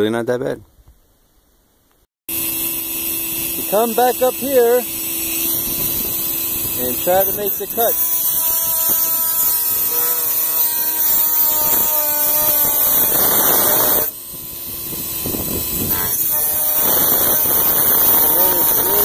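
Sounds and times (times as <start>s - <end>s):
rotary tool cutting sheet steel: 2.3s - 19.0s.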